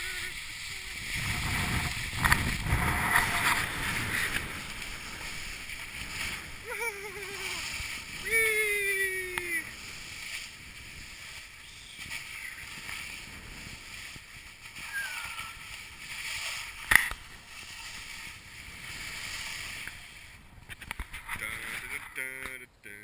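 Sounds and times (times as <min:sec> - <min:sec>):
wind on microphone: 0:00.0 - 0:22.1
skis scraping over snow: 0:00.0 - 0:22.5.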